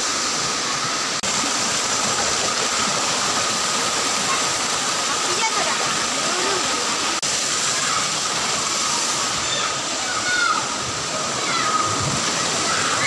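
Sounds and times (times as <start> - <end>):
waterfall over boulders: 0.0 - 13.0.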